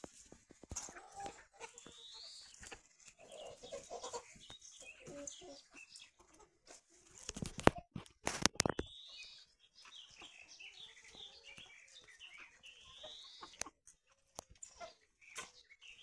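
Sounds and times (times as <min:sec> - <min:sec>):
chicks peeping and chirping: 0:00.0 - 0:16.0.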